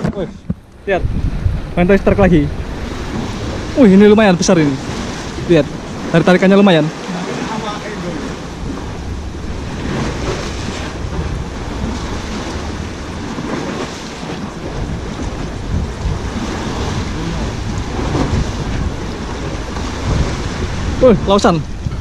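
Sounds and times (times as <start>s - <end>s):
sea waves washing on pillars: 0.0s - 22.0s
wind buffeting microphone: 0.0s - 22.0s.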